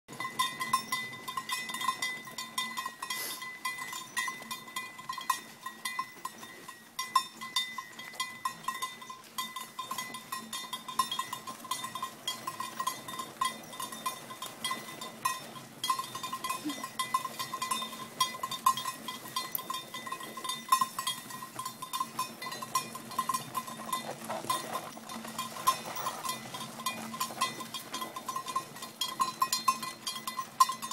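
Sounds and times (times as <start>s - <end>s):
oxen bell clanking: 0.1s - 30.9s.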